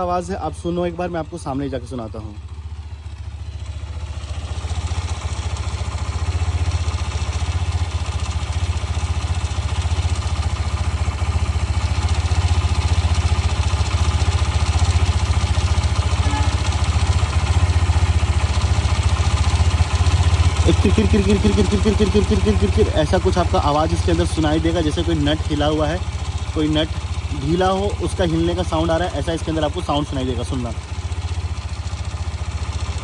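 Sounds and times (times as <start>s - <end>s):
motorcycle engine idling: 0.0s - 33.0s
fast rattle inside engine: 3.2s - 30.8s.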